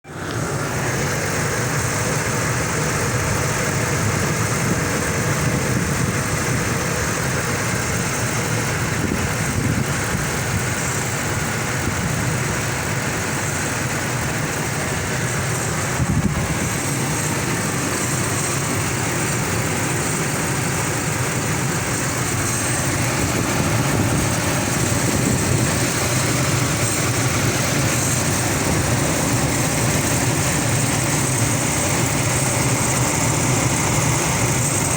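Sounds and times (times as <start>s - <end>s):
engine idling: 0.0s - 34.9s
engine noise: 0.0s - 34.9s.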